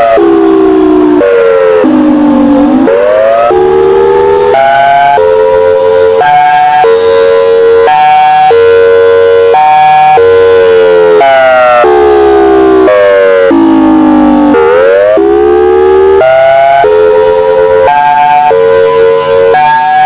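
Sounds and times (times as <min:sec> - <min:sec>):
hi-lo warning siren: 0:00.0 - 0:20.0.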